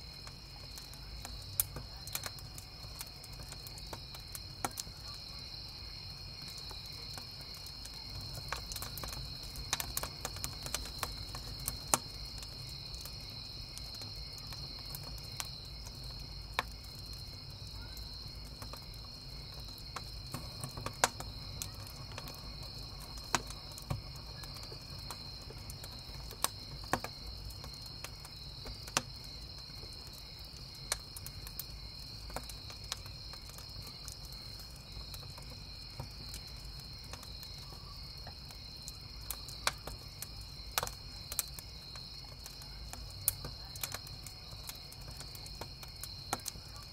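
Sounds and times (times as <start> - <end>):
campfire crackling and popping: 0.0 - 46.9
crickets chirping: 0.0 - 46.9.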